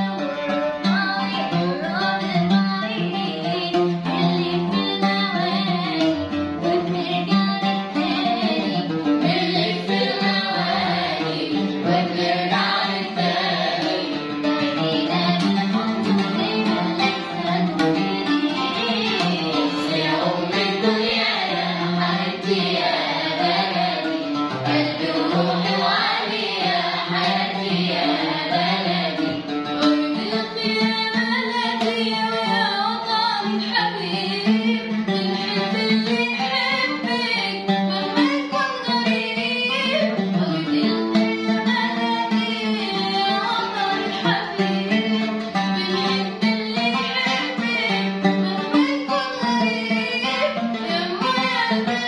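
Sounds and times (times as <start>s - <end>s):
instrumental accompaniment: 0.0s - 52.0s
children's choir singing: 6.6s - 34.3s, 35.1s - 52.0s.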